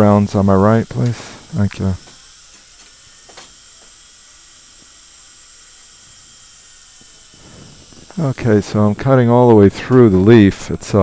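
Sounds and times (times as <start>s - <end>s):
dental drill whine and hiss: 0.0s - 11.0s
water spray hiss: 0.0s - 11.0s.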